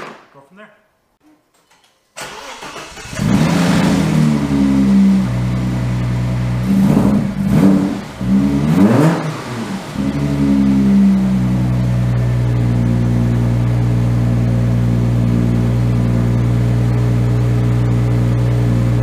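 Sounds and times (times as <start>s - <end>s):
car engine running and revving: 3.0s - 19.0s.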